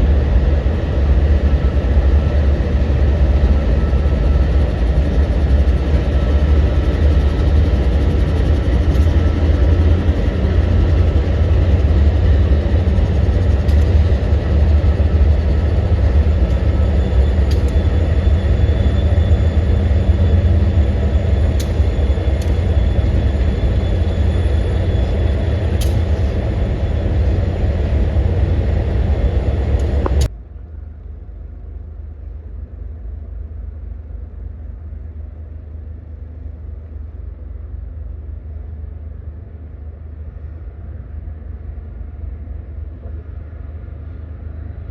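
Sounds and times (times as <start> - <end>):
freight train rumbling: 0.0 - 44.9.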